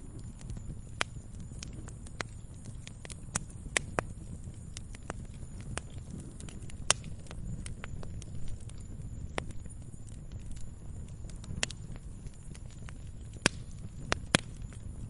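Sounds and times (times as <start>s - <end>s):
campfire crackling: 0.0s - 15.0s
low rumble of fire: 0.0s - 15.0s.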